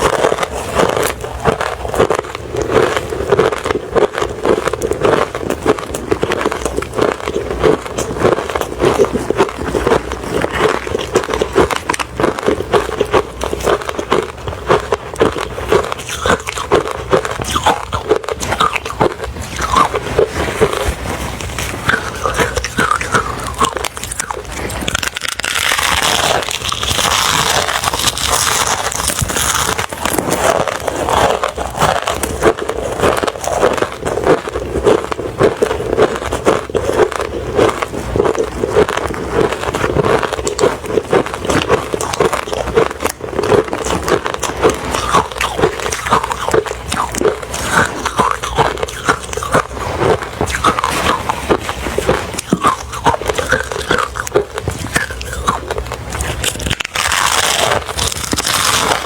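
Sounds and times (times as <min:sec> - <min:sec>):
chewing crushed ice: 0:00.0 - 0:59.0.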